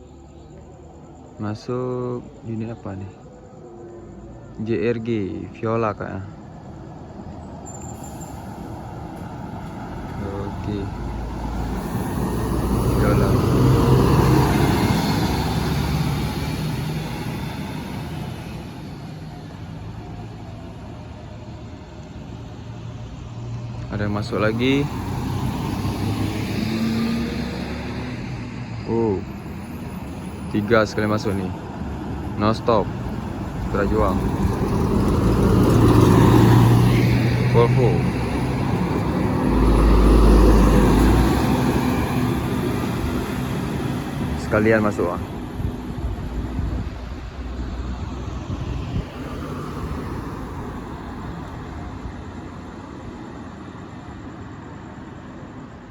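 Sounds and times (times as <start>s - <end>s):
bus passing by: 0.0s - 55.9s.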